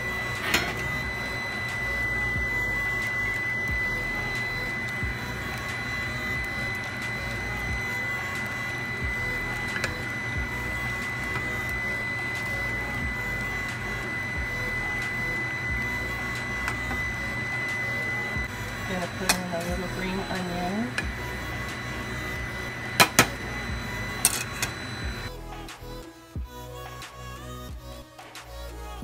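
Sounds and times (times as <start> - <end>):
high-pitched whine: 0.0 - 29.0.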